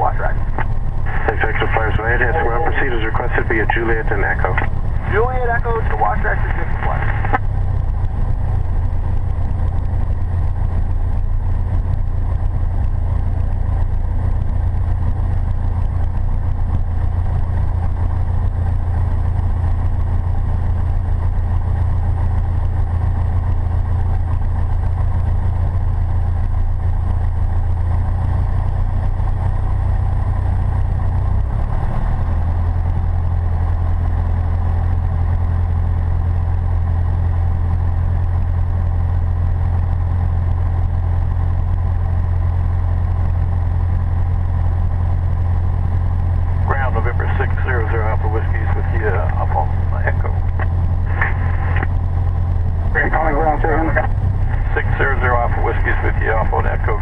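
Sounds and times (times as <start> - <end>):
aircraft engine and propeller humming: 0.0 - 57.0.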